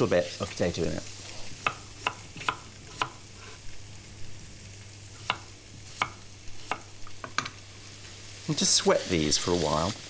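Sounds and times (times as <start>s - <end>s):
vegetables sizzling in pan: 0.0s - 10.0s.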